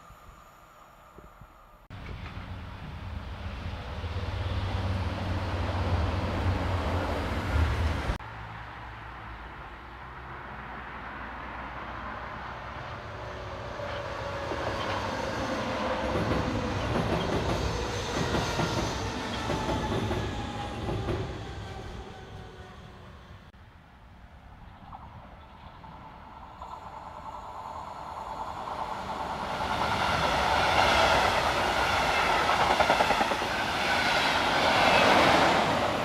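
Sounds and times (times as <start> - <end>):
train whine: 0.0 - 8.2, 12.8 - 23.5, 24.8 - 36.0
passing train hum: 0.0 - 36.0.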